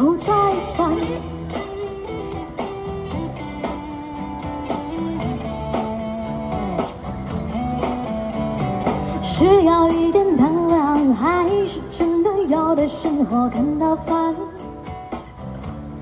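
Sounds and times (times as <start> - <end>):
pop ballad instrumental: 0.0 - 16.0.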